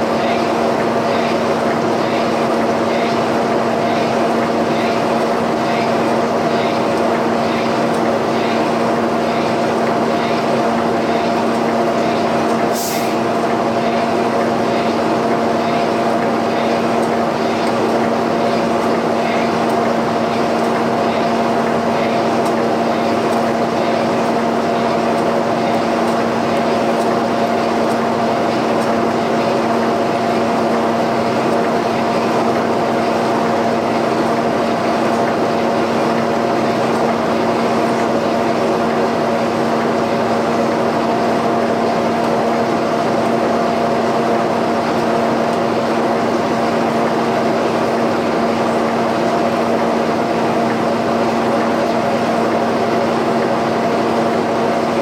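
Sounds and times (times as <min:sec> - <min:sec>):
shop machine humming: 0:00.0 - 0:55.0.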